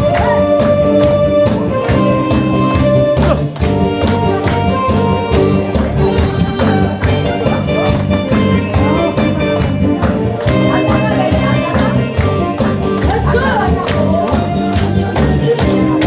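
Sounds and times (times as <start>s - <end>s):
audience clapping along: 0.0s - 16.0s
instrumental music with steady beat: 0.0s - 16.0s.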